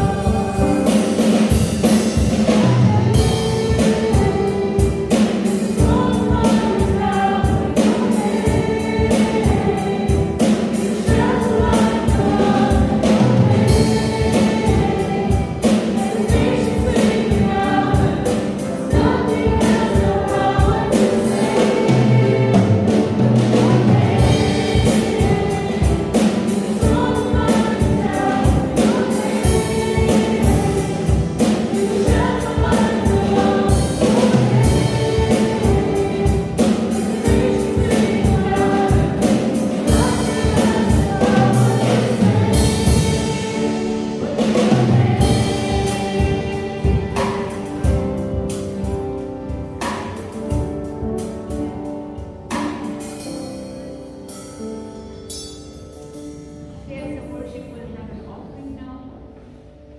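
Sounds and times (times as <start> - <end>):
women singing worship song: 0.0 - 48.0.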